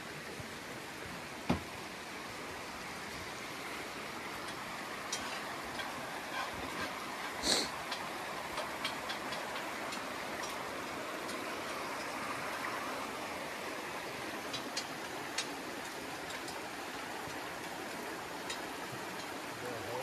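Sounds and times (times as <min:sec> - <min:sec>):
creek rushing over stones: 0:00.0 - 0:20.0.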